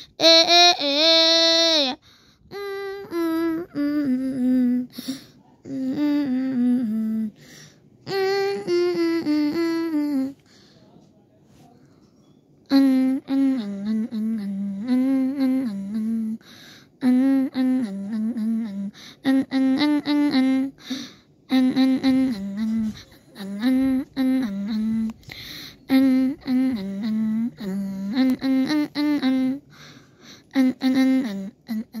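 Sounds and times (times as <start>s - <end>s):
person humming a melody: 0.0s - 7.4s, 8.0s - 10.4s, 12.6s - 32.0s.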